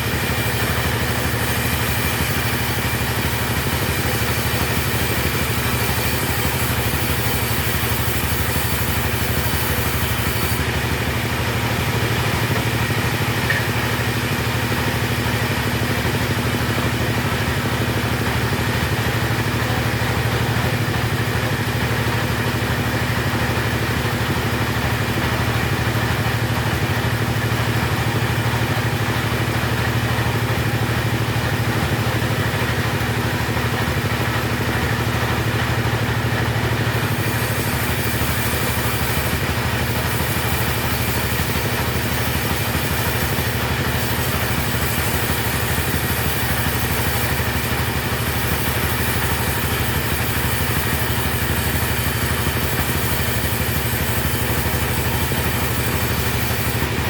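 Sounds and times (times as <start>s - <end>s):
chainsaw engine sawing timber: 0.0s - 21.4s, 24.5s - 57.0s.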